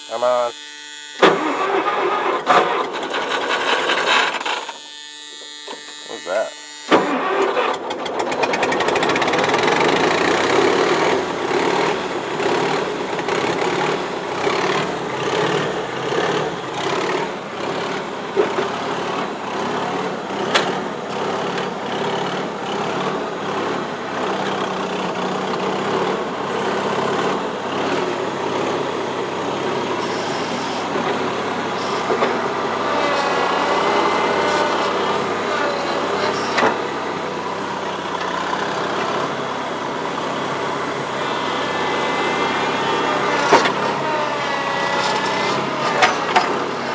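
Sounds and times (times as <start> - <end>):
gasoline engine running: 0.0 - 46.9.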